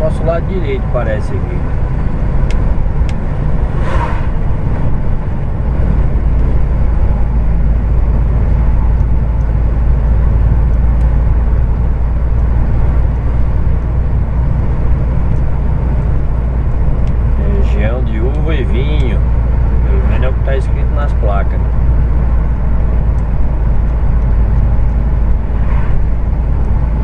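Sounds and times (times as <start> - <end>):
road and tyre noise: 0.0 - 27.0
truck diesel engine drone: 0.0 - 27.0.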